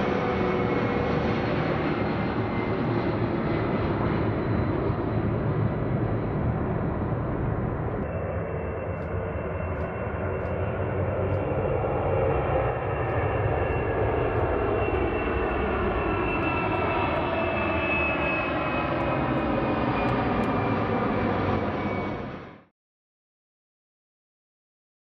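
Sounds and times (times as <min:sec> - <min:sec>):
jet engines at takeoff power: 0:00.0 - 0:22.7.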